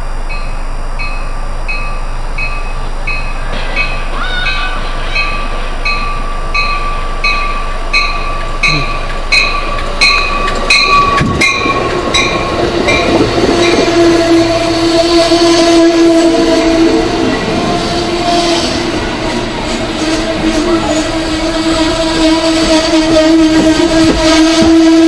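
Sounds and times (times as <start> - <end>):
train bell ringing: 0.0 - 21.2
train coaches rolling past: 0.0 - 25.0.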